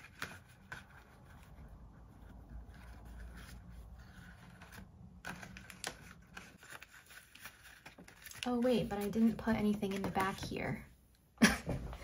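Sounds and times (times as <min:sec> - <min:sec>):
paper envelope rustling: 0:00.0 - 0:10.5.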